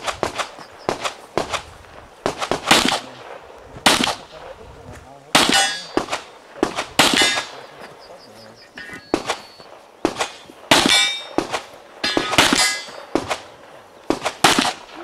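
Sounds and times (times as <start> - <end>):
pistol shots: 0.0 - 4.5, 5.3 - 7.8, 8.8 - 15.0.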